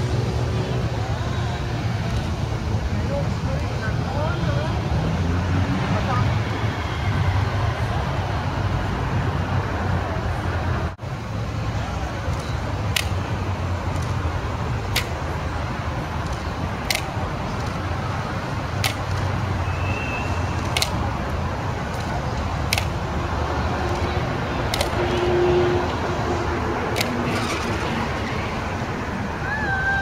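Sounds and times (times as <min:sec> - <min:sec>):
city traffic noise: 0:00.0 - 0:30.0.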